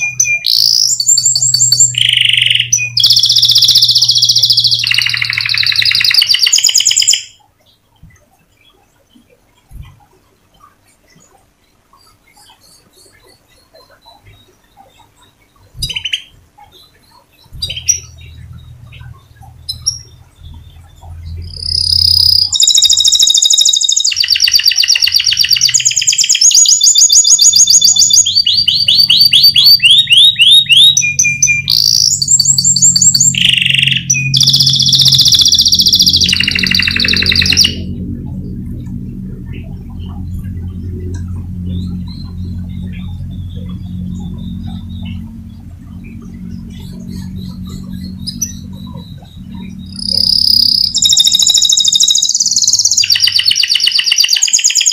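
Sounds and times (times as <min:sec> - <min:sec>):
canary chirping and trilling: 0:00.0 - 0:54.9
low steady hum: 0:00.0 - 0:54.9.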